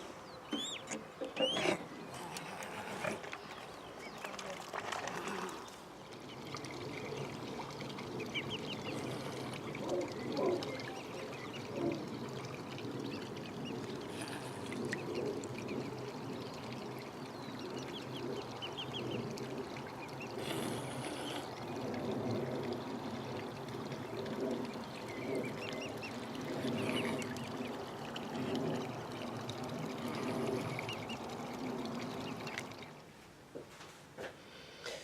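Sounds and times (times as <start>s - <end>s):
moving water: 0.0s - 35.0s.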